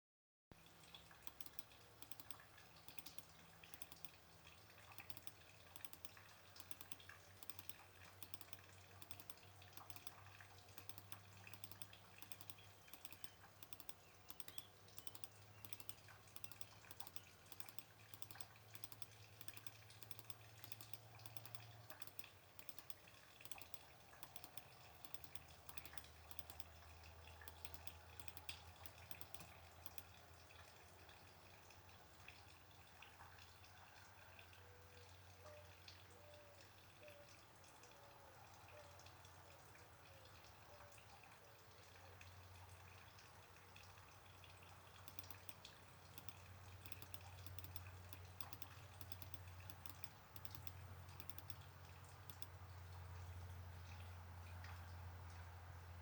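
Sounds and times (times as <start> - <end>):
faint rapid clicking: 0.6 - 38.1, 41.8 - 56.0.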